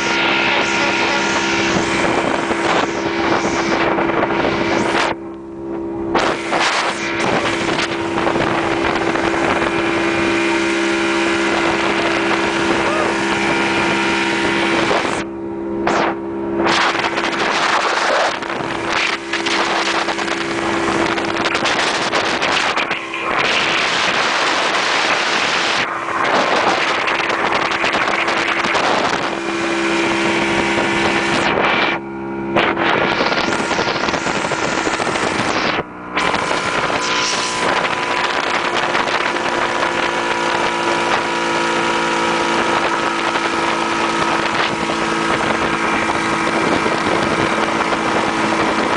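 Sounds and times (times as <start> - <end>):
motorboat engine droning: 0.0 - 48.9
water rushing past hull: 0.0 - 48.9
wind buffeting microphone: 0.0 - 48.9.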